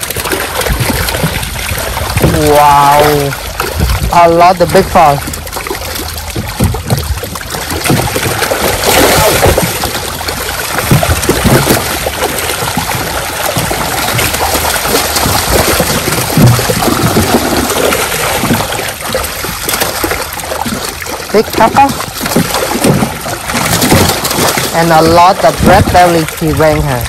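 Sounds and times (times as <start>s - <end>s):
fish thrashing and splashing: 0.0s - 27.0s.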